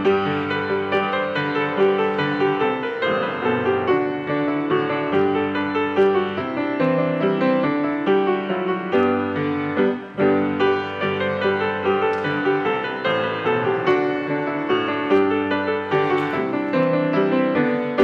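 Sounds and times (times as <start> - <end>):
slow grand piano piece: 0.0 - 18.0.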